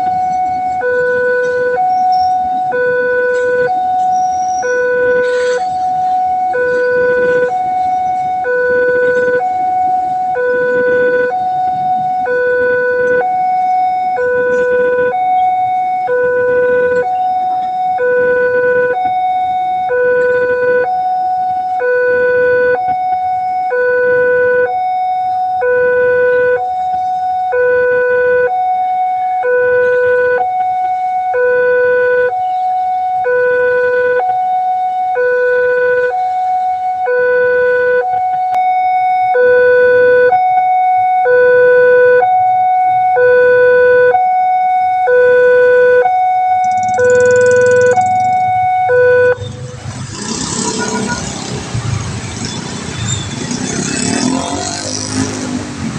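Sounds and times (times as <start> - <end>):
two-tone crossing alarm: 0.0 - 51.6
road traffic rumble: 0.0 - 55.9.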